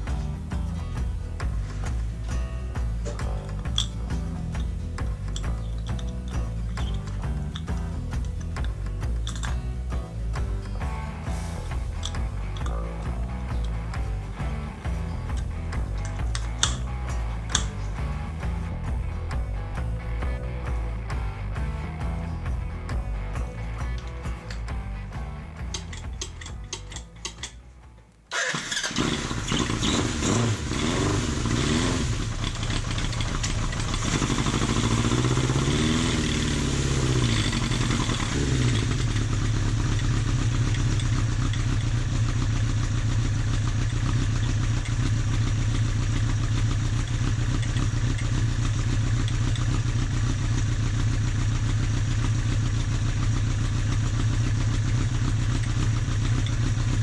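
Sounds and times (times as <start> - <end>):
motorcycle engine revving and idling: 0.0 - 27.6, 28.3 - 57.0.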